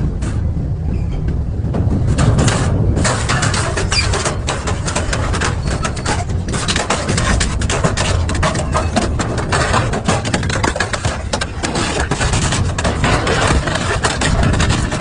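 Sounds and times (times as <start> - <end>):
metal cracking and snapping: 2.1 - 15.0.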